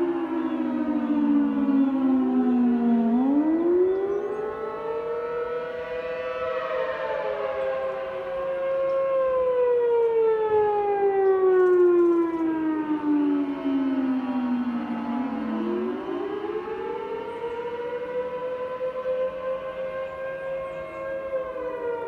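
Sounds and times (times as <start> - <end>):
storm warning sirens: 0.0 - 22.0.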